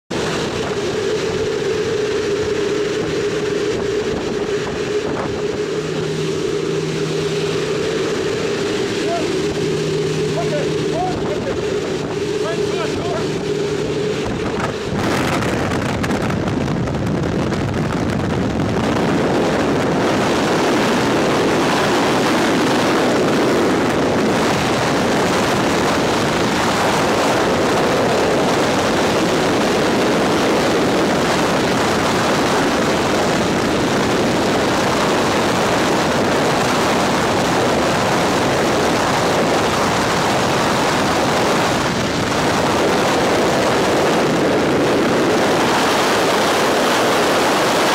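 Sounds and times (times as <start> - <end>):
wind rushing over microphone: 0.1 - 47.9.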